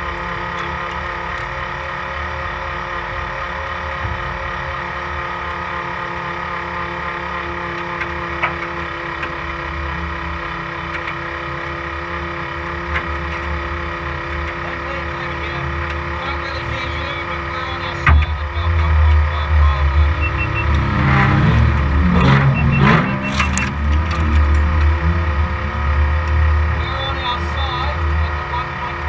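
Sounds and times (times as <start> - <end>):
race car engine running: 0.0 - 29.0.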